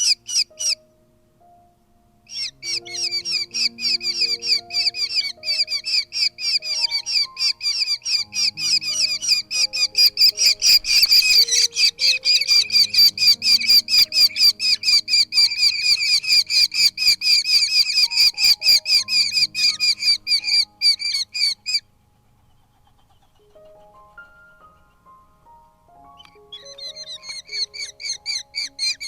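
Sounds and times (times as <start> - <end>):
falcon chicks begging calls: 0.0 - 0.8, 2.3 - 24.1, 26.2 - 29.0
soft background music: 0.0 - 29.0.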